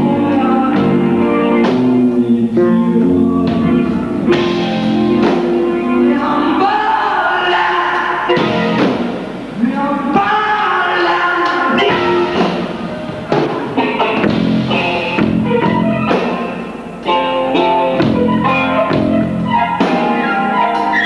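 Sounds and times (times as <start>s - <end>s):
drum kit: 0.0s - 6.7s, 8.0s - 21.0s
electric guitar: 0.0s - 21.0s.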